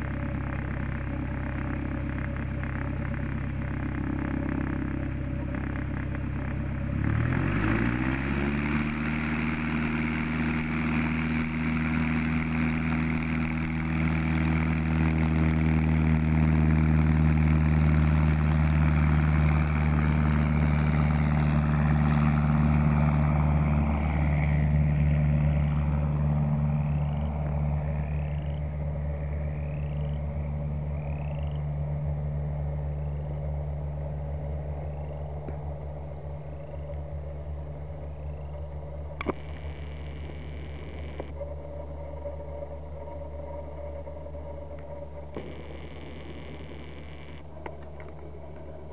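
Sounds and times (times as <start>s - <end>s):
plane engine and propeller drone: 0.0s - 48.9s.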